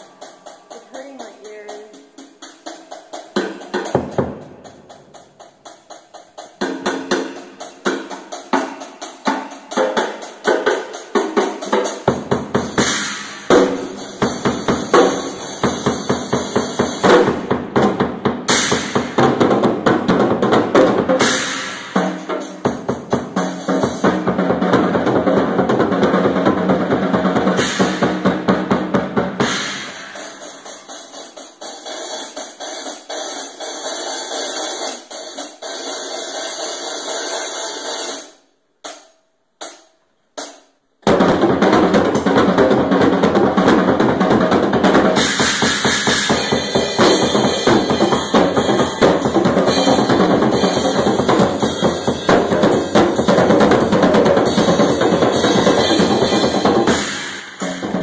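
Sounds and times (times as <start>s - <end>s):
drum kit solo: 0.0s - 58.0s.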